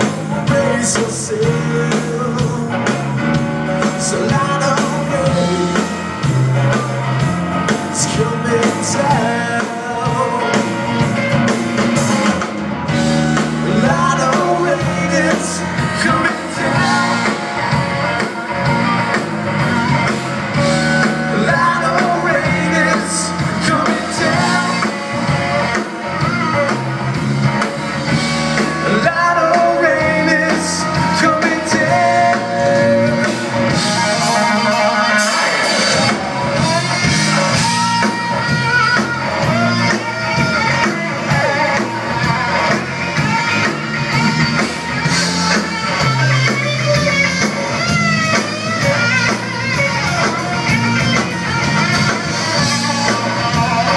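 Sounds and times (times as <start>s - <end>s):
person singing: 0.0s - 11.3s, 13.2s - 27.0s, 28.3s - 47.7s, 48.3s - 53.9s
blues rock band playing: 0.0s - 53.9s
electric guitar: 0.0s - 53.9s.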